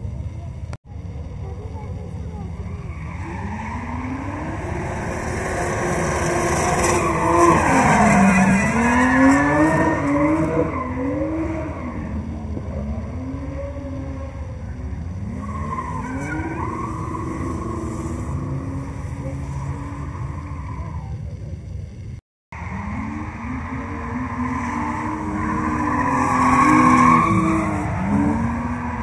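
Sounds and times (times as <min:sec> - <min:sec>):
tyre squeal: 0:02.6 - 0:21.2, 0:22.6 - 0:29.0
car engine revving: 0:02.7 - 0:21.2, 0:22.6 - 0:29.0.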